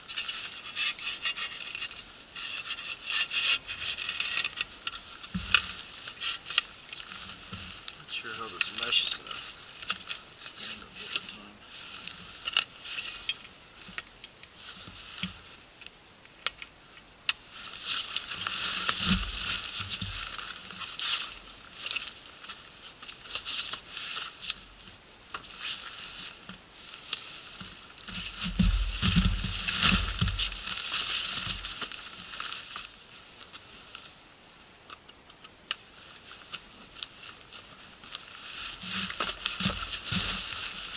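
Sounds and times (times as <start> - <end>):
nylon rustling and crinkling: 0.0 - 34.6, 35.8 - 40.9.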